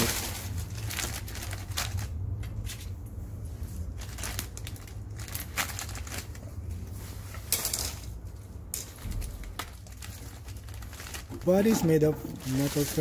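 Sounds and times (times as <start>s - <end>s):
plastic bag crinkling: 0.0s - 2.9s, 3.7s - 13.0s.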